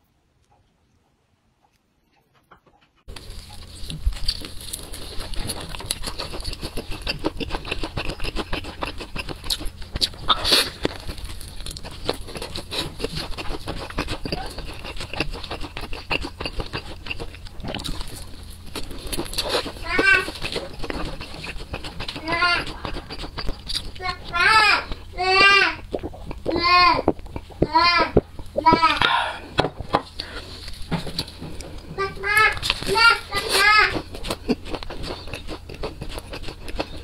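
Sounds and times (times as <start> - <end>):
crunching and chewing fried chicken: 2.6 - 37.0.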